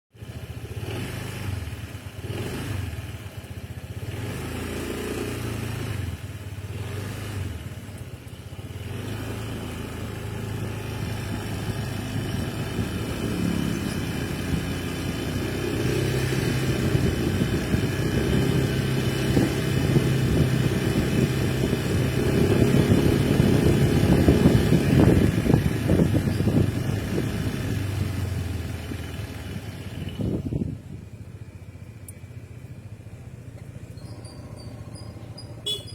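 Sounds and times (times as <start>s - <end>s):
scooter engine revving: 0.2s - 7.9s, 8.6s - 31.8s, 32.8s - 35.9s.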